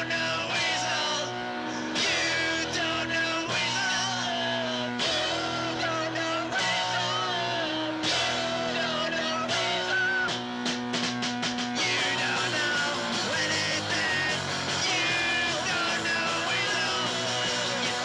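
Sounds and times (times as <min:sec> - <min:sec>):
person singing lead vocal: 0:00.0 - 0:10.7, 0:11.7 - 0:18.0
punk rock band playing: 0:00.0 - 0:18.0.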